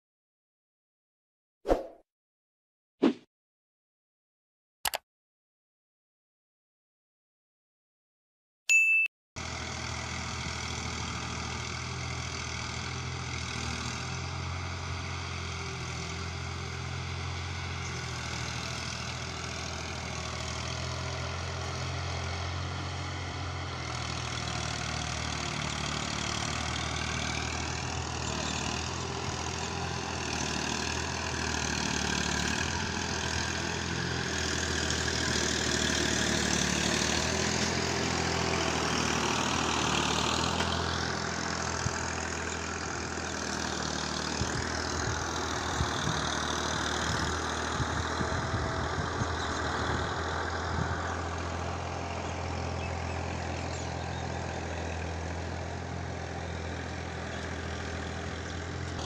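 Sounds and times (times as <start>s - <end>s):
tractor diesel engine idling: 9.4s - 59.0s.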